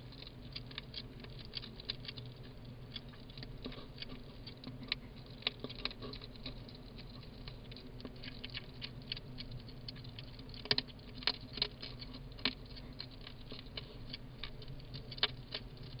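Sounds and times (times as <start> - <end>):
hedgehogs crunching food: 0.0 - 16.0.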